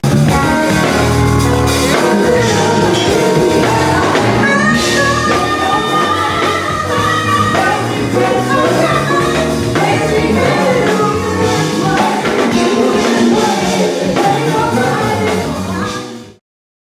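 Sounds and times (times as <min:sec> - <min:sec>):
band music with singing: 0:00.0 - 0:16.4.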